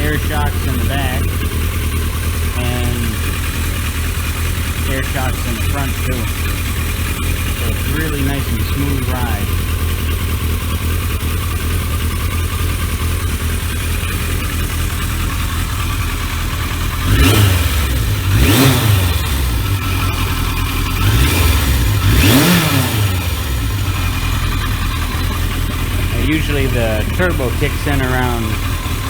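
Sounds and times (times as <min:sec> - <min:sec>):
engine throttle blips: 0:00.0 - 0:29.0
motorcycle engine idling: 0:00.0 - 0:29.0.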